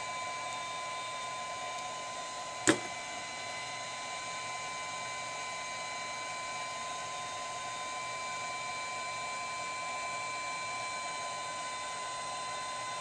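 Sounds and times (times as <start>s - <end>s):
electric appliance whine and hiss: 0.0s - 13.0s.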